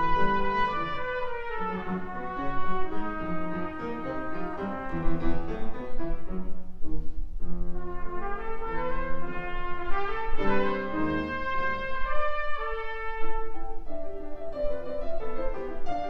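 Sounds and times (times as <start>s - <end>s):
piano accompaniment: 0.0s - 16.0s
trumpet melody: 0.0s - 16.0s.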